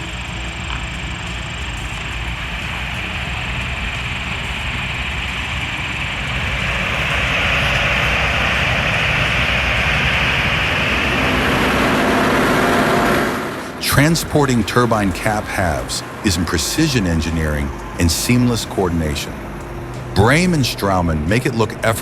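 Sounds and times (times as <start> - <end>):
heavy truck engine running: 0.0 - 22.0
road noise: 0.0 - 22.0.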